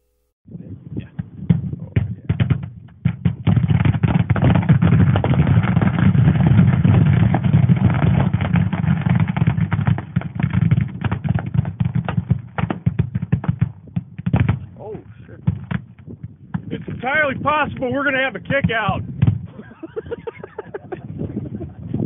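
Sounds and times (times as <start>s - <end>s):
fireworks crackling bangs: 1.0s - 21.0s.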